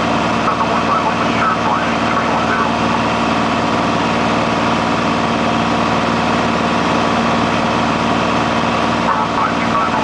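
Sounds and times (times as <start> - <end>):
propeller plane engine hum: 0.0 - 10.0.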